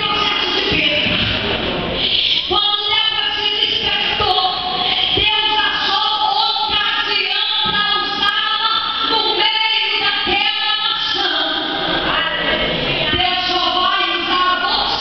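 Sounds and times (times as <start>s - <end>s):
woman singing into microphone: 2.1s - 12.5s, 13.1s - 15.0s.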